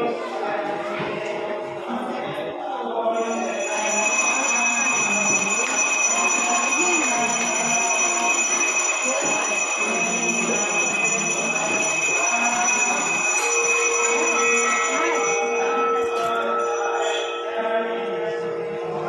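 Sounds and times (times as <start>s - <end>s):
murmur of voices: 0.0s - 19.0s
temple bell ringing: 3.1s - 19.0s.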